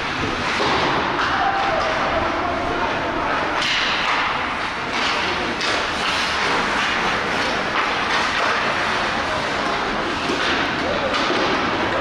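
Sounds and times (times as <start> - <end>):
skates scraping on ice: 0.0 - 12.0.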